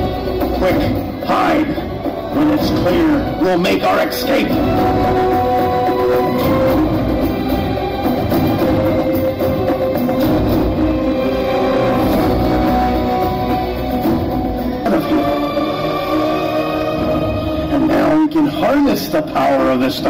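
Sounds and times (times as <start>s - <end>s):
music with drums and held notes: 0.0s - 19.2s.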